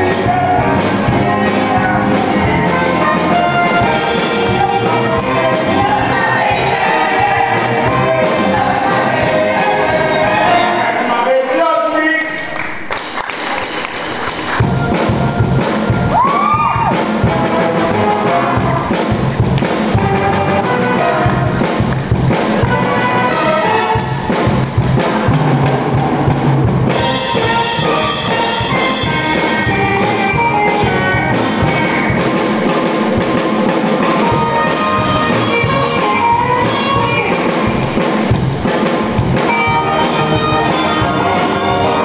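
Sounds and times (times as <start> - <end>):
drum kit beat: 0.0 - 11.1, 12.7 - 42.0
brass playing: 0.0 - 11.3, 13.6 - 26.1, 26.9 - 37.9, 39.4 - 42.0
upbeat rock and roll music: 0.0 - 42.0.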